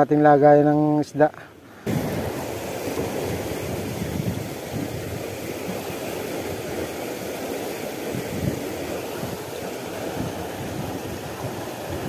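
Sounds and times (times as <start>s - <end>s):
turbulent water rushing: 1.5s - 12.0s
wind buffeting microphone: 1.8s - 12.0s.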